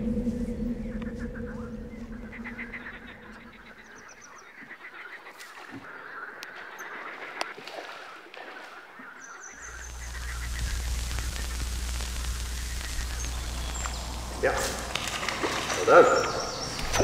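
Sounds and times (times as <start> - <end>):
small birds chirping: 0.0 - 7.6, 8.6 - 17.0
waterfowl calling: 0.0 - 17.0.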